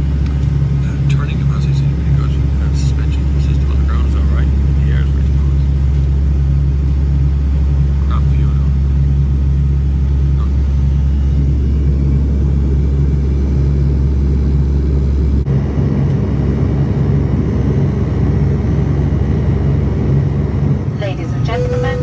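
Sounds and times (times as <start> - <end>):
turboprop cabin drone: 0.0 - 22.0.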